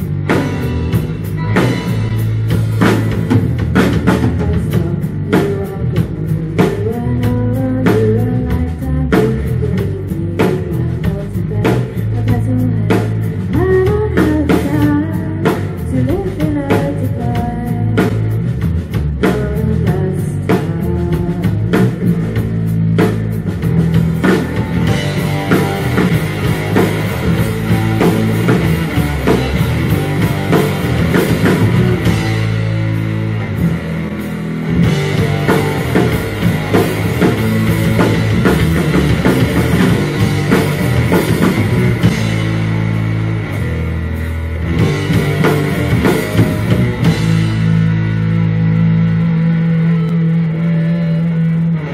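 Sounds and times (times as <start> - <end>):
drum kit: 0.0 - 51.9
electric guitars: 0.0 - 51.9.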